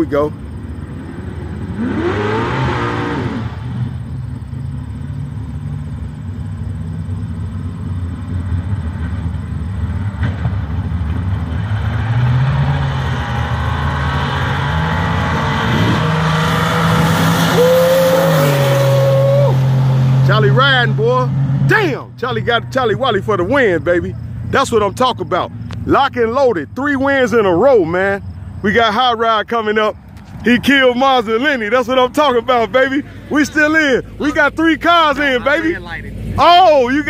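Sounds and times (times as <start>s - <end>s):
drag race car engines: 0.0s - 37.0s
engine whine: 0.0s - 37.0s.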